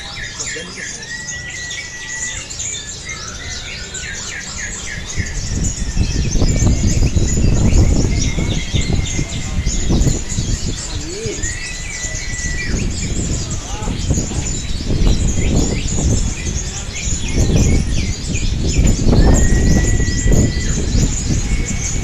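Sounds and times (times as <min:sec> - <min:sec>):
songbirds chirping and trilling: 0:00.0 - 0:22.0
loud low rumbling: 0:02.0 - 0:22.0.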